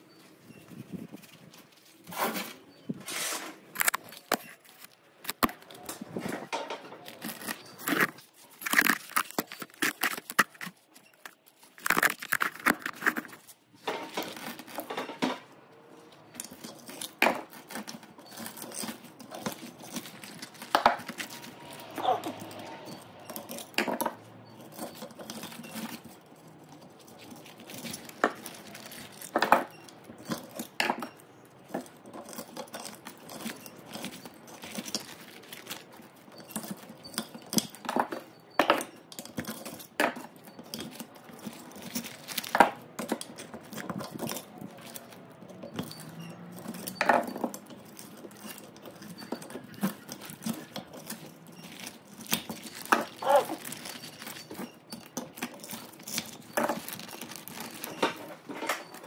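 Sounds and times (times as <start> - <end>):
hand tools clinking on metal: 3.8 - 59.0.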